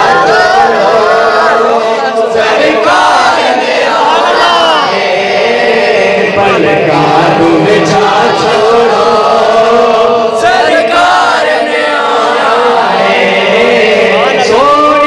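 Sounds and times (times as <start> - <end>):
crowd chanting: 0.0 - 15.0.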